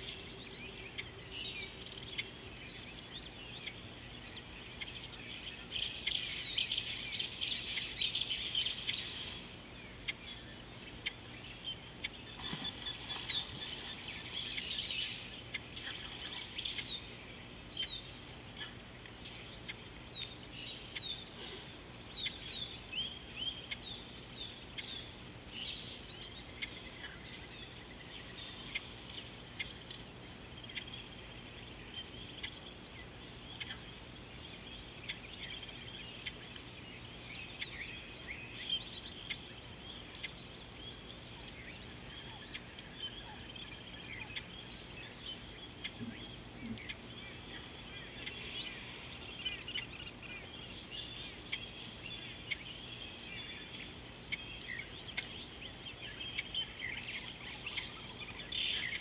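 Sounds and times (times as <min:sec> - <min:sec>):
wild birds chirping: 0:00.0 - 0:59.0.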